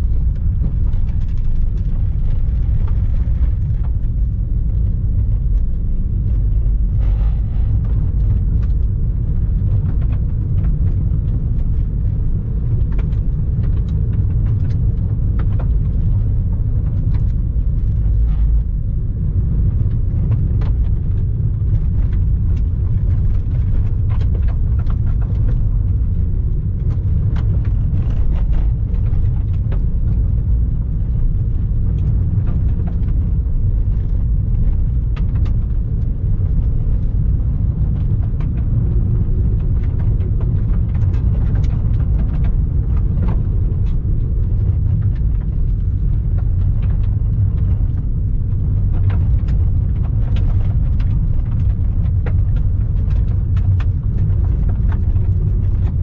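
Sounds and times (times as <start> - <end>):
gravel ticks: 0.0 - 56.0
tyres and engine rumble: 0.0 - 56.0.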